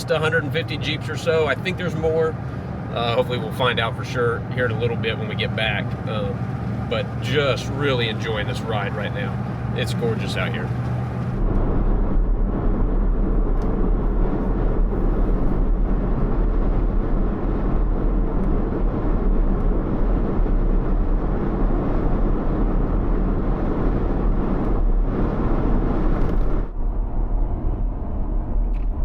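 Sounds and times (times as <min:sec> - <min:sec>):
car driving rumble: 0:00.0 - 0:29.0.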